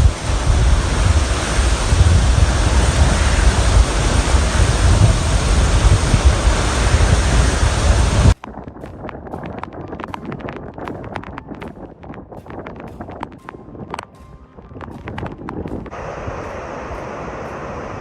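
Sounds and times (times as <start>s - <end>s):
heavy low rumble: 0.0s - 18.0s
storm wind buffeting microphone: 0.0s - 18.0s.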